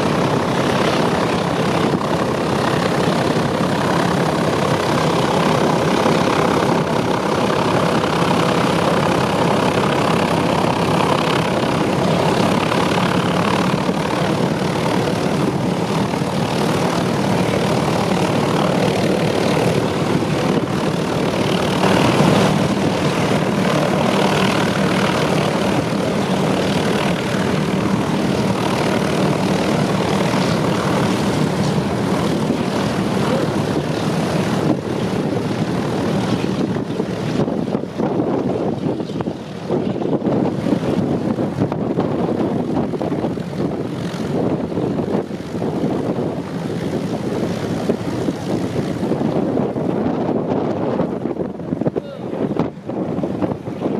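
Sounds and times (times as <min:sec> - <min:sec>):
propeller plane engines running: 0:00.0 - 0:53.9.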